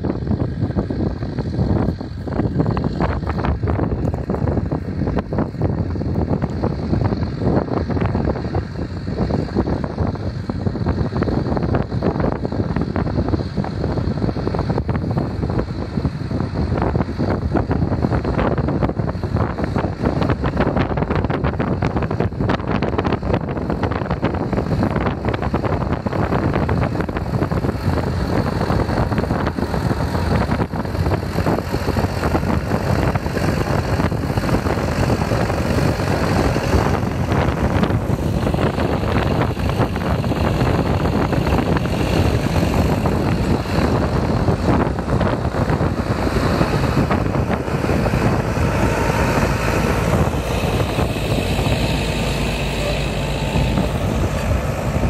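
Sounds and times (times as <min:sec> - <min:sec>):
second tractor working: 0:00.0 - 0:55.0
tractor diesel engine under load: 0:00.0 - 0:55.0
wind buffeting microphone: 0:00.0 - 0:55.0.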